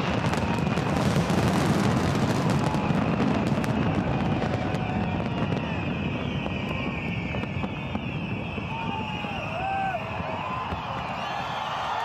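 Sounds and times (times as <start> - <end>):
fireworks cracks and crackles: 0.0 - 12.0.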